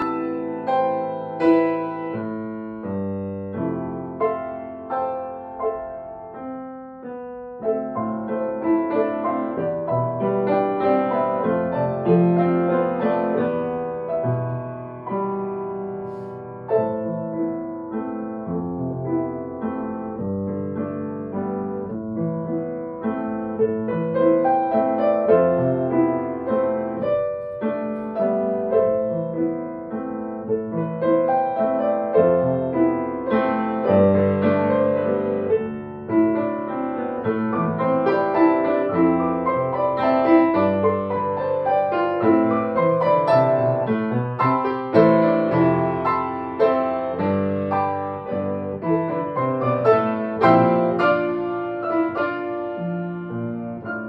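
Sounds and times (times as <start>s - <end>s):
piano duet: 0.0s - 54.0s.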